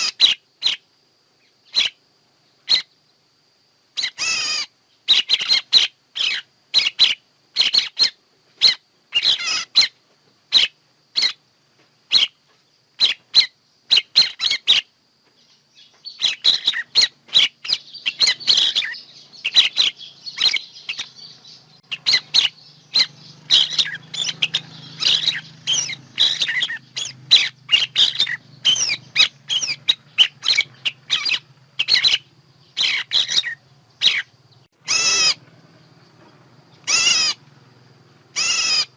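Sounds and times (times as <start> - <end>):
chatter of bird calls: 0.0 - 0.8, 1.7 - 2.0, 4.0 - 11.4, 13.0 - 14.9, 16.1 - 35.5, 36.2 - 38.9
songbird chirps: 0.0 - 38.9.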